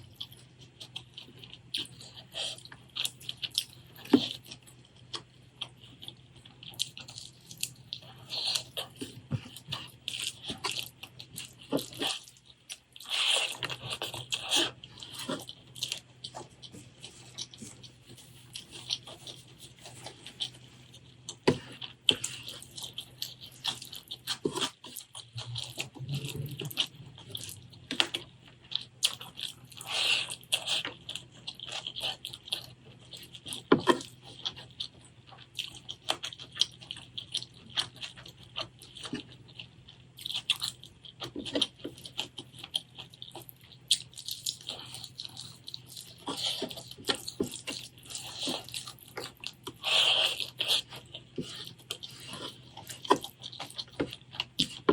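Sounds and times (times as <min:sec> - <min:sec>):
wet chewing: 0:00.0 - 0:54.9.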